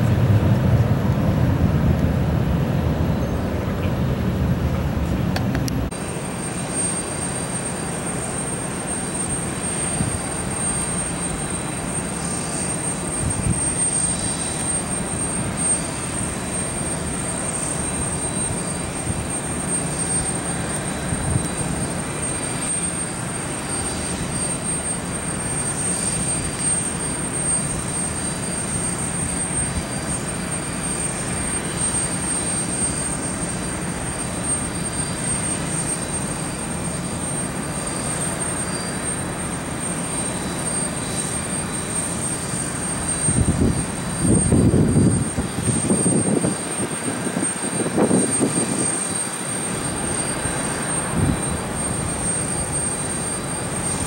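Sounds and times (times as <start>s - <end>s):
jet engine rushing: 0.0s - 54.0s
thin high-pitched whine: 0.0s - 54.0s.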